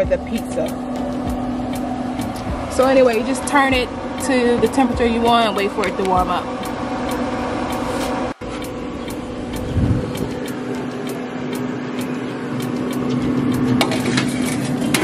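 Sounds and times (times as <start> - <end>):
grill fan humming: 0.0 - 15.0.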